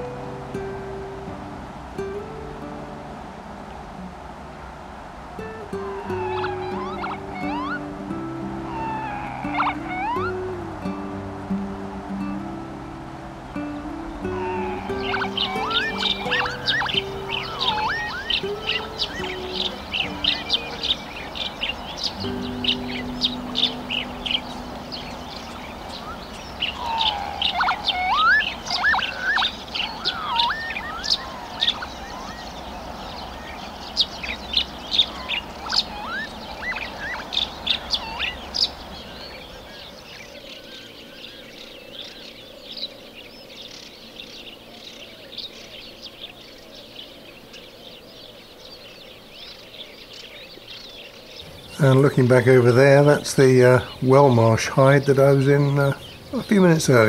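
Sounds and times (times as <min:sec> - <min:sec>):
low wind rumble: 0:00.0 - 0:57.0
birds chirping and whistling: 0:05.5 - 0:11.2, 0:13.4 - 0:57.0.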